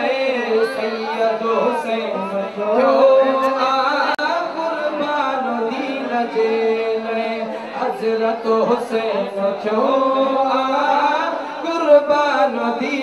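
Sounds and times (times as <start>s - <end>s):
man singing long held notes: 0.0s - 13.0s.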